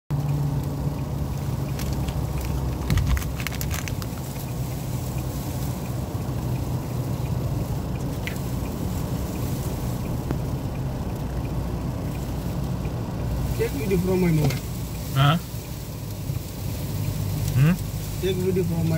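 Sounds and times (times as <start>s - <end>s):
car engine and road noise: 0.0s - 18.9s
debris ticking on windscreen: 0.1s - 18.9s.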